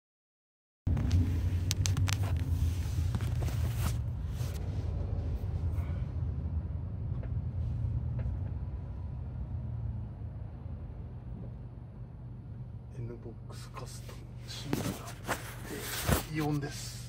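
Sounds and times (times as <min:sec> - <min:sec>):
car cabin road rumble: 0:00.9 - 0:17.0.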